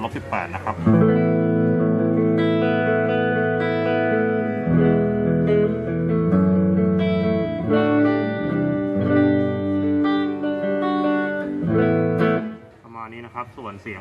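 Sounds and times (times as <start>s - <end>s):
clean electric guitar chords: 0.7s - 12.8s.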